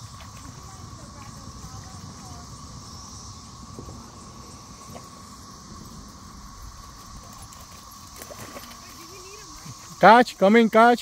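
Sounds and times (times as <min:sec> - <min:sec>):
wind rumble on microphone: 0:00.0 - 0:09.8
cicadas droning: 0:00.0 - 0:11.0.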